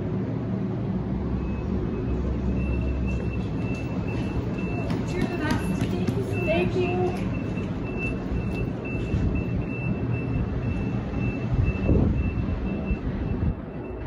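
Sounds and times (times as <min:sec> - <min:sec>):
low rumble of stopped train: 0:00.0 - 0:14.0.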